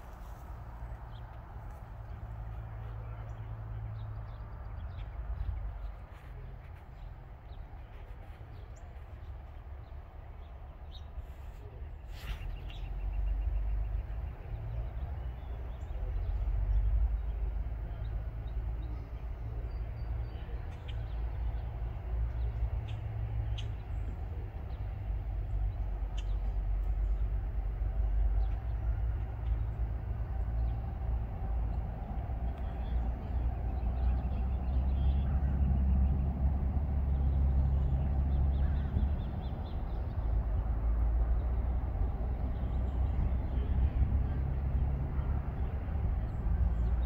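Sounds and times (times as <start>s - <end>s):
diesel locomotives rumbling: 0.0s - 47.0s
small birds chirping: 0.0s - 47.0s.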